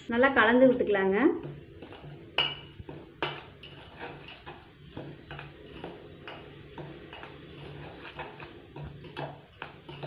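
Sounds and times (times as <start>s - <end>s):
spoon scraping metal bowl: 1.4s - 10.0s.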